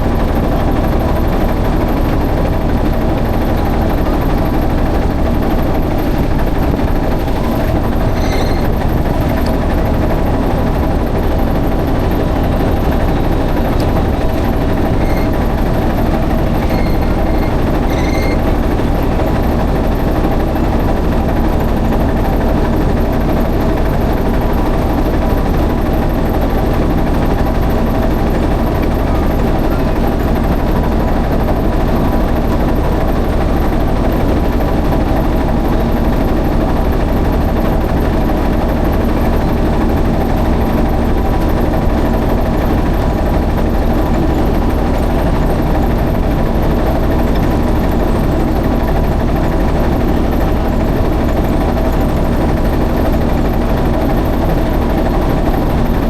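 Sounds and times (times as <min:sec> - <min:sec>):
motor boat engine running: 0:00.0 - 0:56.0.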